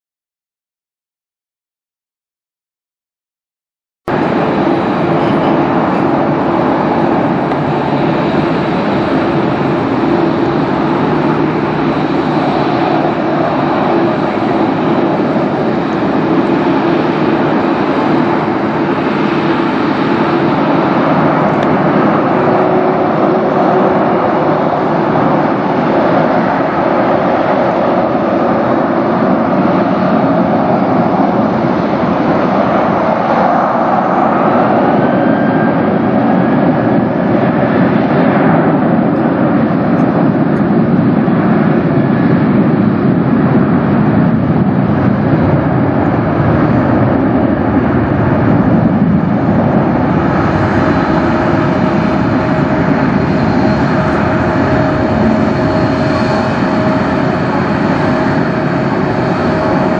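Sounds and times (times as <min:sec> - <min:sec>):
faint rising whine: 0:04.1 - 0:37.7, 0:44.6 - 0:59.9
jet engines running: 0:04.1 - 0:59.9.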